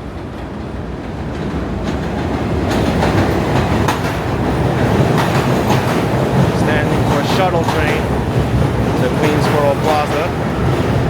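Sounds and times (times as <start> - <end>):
subway train wheels clacking: 0.0 - 11.0.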